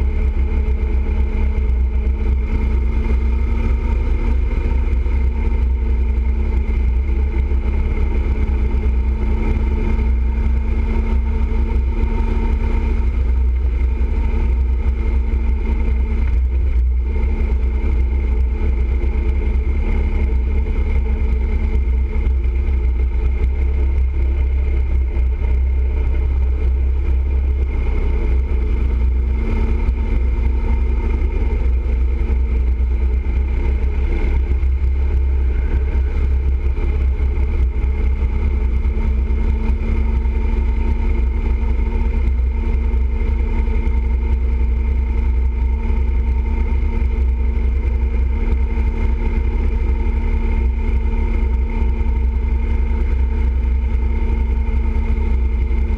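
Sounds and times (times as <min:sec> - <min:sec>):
motorcycle engine cruising: 0:00.0 - 0:55.9
wind and road noise: 0:00.0 - 0:55.9.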